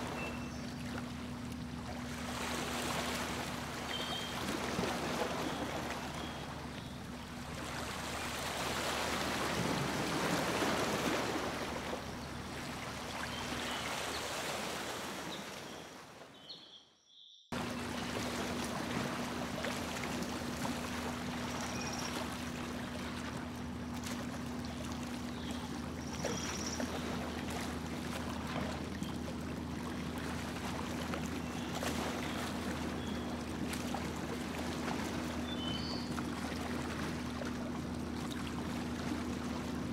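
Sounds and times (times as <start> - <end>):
motorboat motor hum: 0.0 - 16.2, 17.5 - 39.9
water rushing and splashing: 0.0 - 16.2, 17.5 - 39.9.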